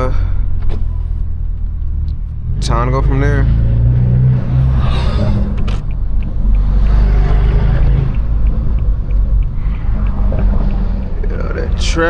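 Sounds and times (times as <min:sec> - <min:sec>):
car exhaust droning: 0:00.0 - 0:12.0.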